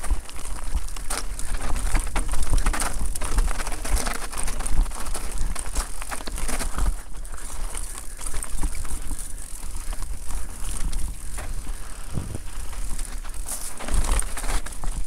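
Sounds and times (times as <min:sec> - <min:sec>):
bike rattling: 0:00.0 - 0:15.0
bike tyres on dirt: 0:00.0 - 0:15.0
wind rumble on microphone: 0:00.0 - 0:15.0.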